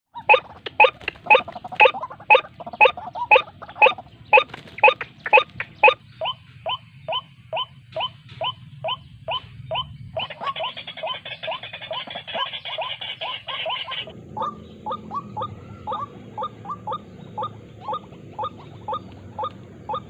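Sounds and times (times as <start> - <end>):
bird calling harsh hoarse notes: 0.1 - 20.0.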